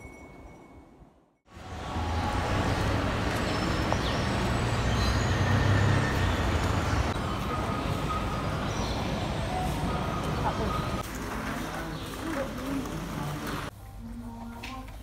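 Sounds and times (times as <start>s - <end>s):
traffic rumble and hiss: 1.5s - 14.4s.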